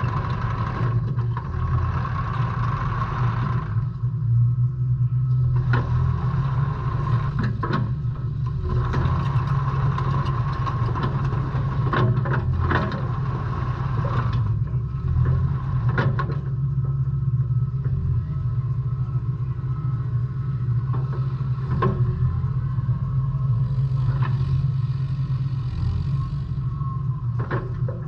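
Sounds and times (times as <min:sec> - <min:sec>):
diesel engine running: 0:00.0 - 0:28.0
high steady whine: 0:02.4 - 0:28.0.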